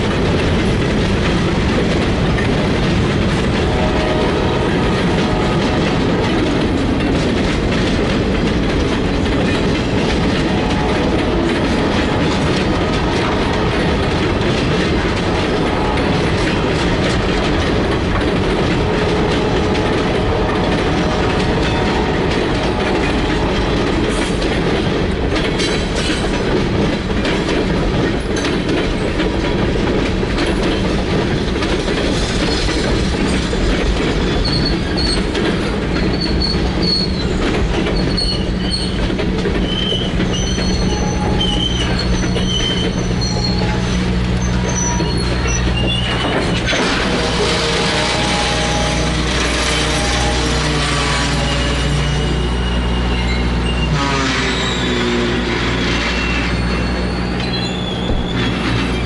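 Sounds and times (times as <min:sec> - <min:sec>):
freight train wheels clacking: 0:00.0 - 0:59.0.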